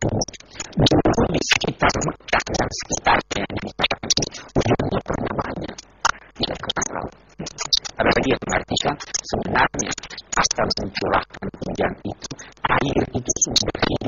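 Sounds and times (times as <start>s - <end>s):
man talking: 0.0s - 14.0s.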